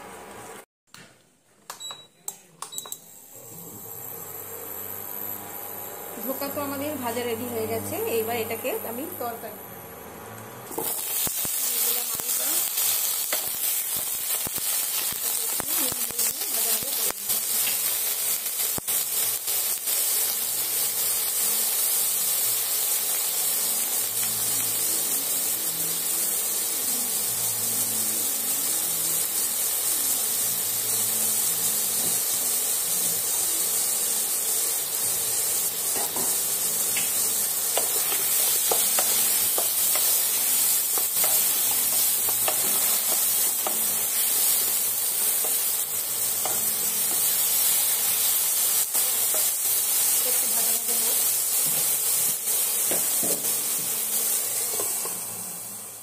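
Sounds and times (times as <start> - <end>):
potatoes sizzling in hot oil: 10.7 - 56.0.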